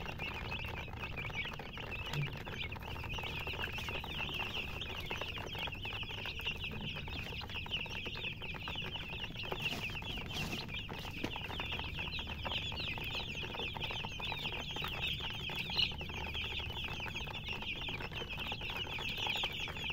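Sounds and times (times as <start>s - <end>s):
chicks peeping: 0.0s - 19.9s.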